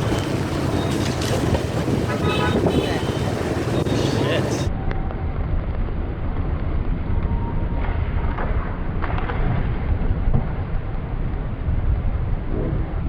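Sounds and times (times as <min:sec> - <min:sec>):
motorbike road and wind noise: 0:00.0 - 0:13.0.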